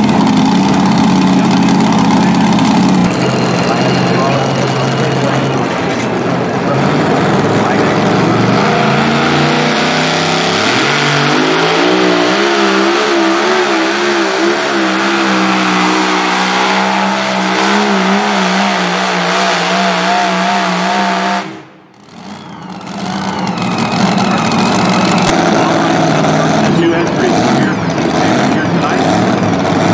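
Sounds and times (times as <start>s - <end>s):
truck engine at full throttle: 0.0s - 29.9s.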